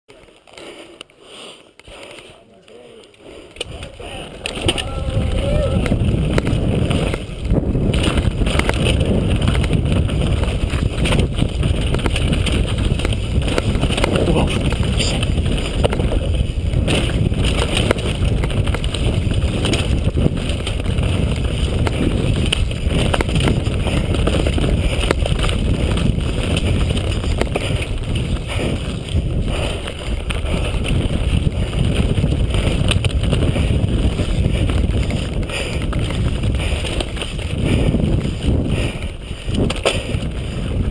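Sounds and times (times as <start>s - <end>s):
tyres on dirt: 0.1s - 40.9s
bike rattling over bumps: 3.4s - 40.9s
wind on microphone: 3.6s - 40.9s.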